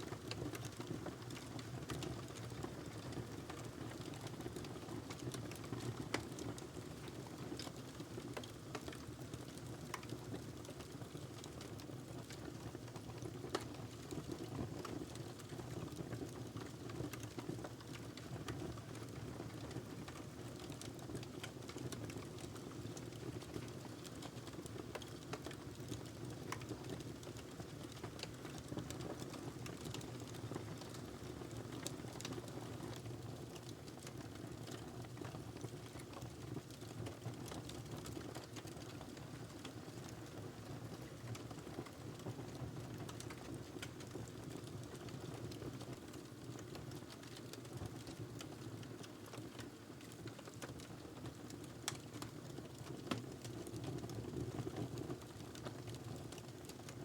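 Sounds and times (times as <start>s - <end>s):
fire burning in a fireplace: 0.0s - 57.0s
fire crackling and popping: 0.0s - 57.0s.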